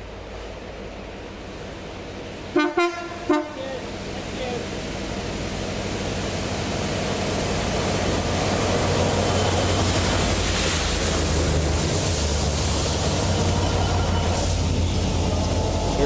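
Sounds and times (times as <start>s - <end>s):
diesel locomotive running: 0.0s - 16.0s
water jets spraying rails: 0.3s - 16.0s.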